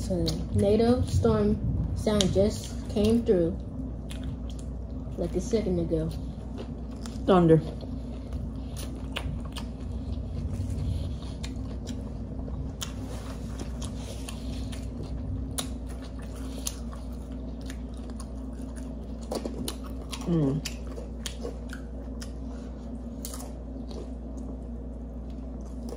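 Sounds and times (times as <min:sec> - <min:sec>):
steady low hum: 0:00.0 - 0:25.9
chewing crunchy food: 0:02.1 - 0:25.9.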